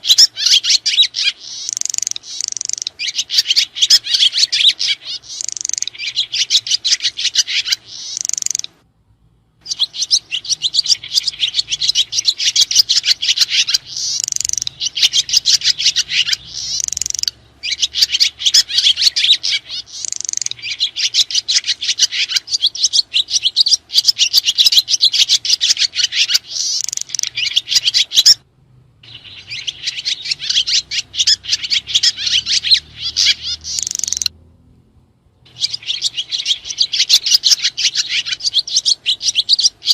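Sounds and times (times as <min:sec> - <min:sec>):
swiftlets twittering: 0:00.0 - 0:08.7, 0:09.6 - 0:28.0, 0:29.1 - 0:34.3.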